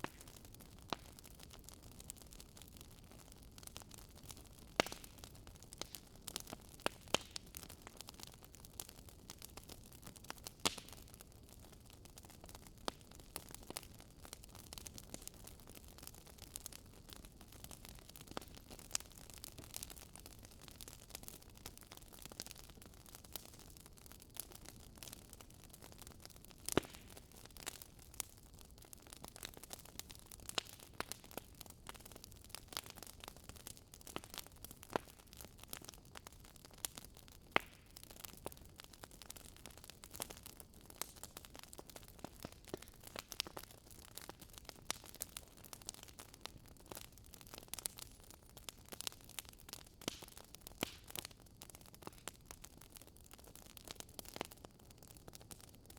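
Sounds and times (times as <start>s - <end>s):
campfire crackling: 0.0s - 55.9s.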